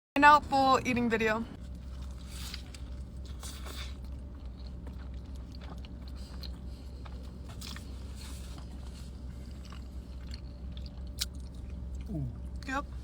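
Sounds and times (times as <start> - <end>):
steady low hum: 0.2 - 13.0
close biting and chewing: 1.7 - 12.5.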